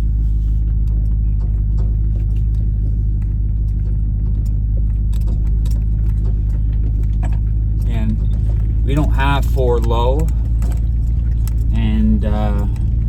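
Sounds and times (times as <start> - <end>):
loose gear rattling: 0.0 - 13.0
truck engine running at low revs: 0.0 - 13.0.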